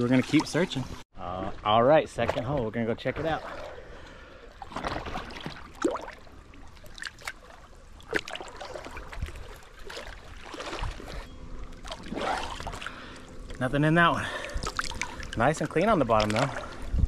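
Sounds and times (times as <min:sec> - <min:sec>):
water lapping and sloshing: 0:00.0 - 0:17.0
small splashes: 0:03.2 - 0:16.9.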